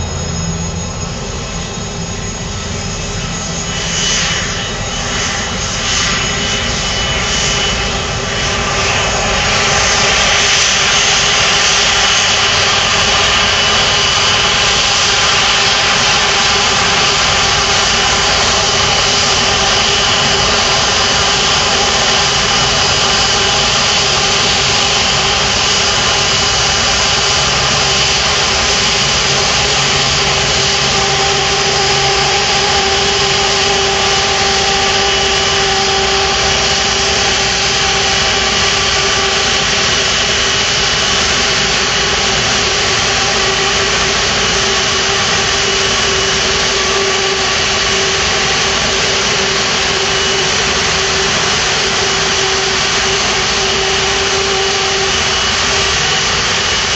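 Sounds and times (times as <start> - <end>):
jet engines idling: 0.0 - 56.9.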